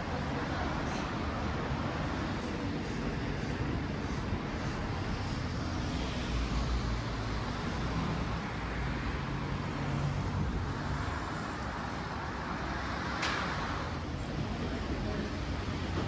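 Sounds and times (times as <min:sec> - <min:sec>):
rumble of cars on the road: 0:00.0 - 0:16.0.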